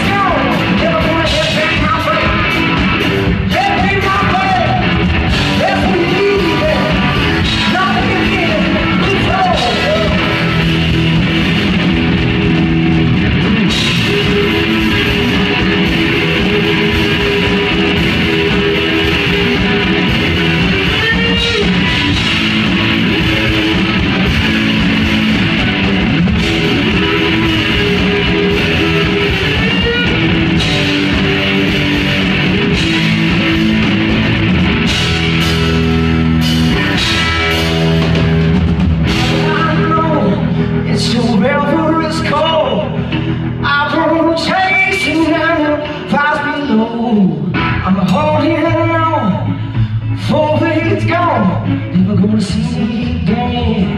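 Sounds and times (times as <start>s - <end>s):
drum kit: 0.0s - 46.7s
electric guitar: 0.0s - 53.9s.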